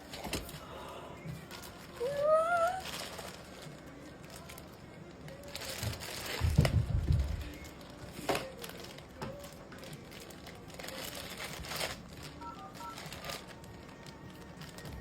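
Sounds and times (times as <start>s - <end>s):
packaging rustles and clicks: 1.3s - 15.0s.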